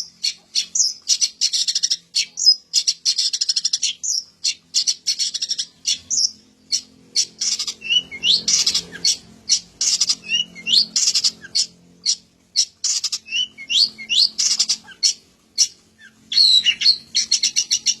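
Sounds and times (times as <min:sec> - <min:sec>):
bird repeated sharp notes: 0:00.0 - 0:18.0
bird singing harsh chattering song: 0:00.0 - 0:18.0.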